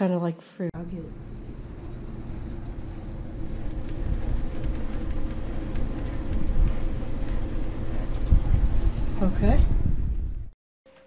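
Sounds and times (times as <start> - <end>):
low rumble with hum: 0.8 - 10.6
food sizzling in oven: 0.9 - 10.1.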